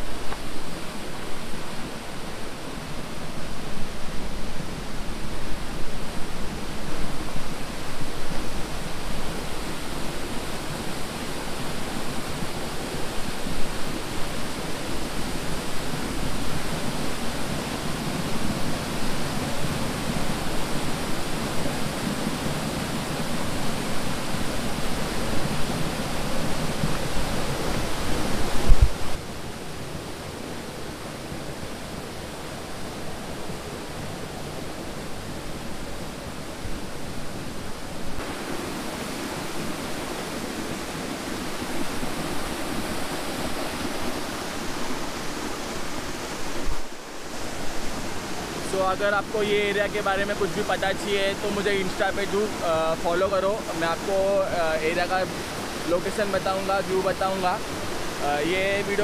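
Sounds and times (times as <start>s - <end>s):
waterfall rushing onto rocks: 0.0s - 59.0s.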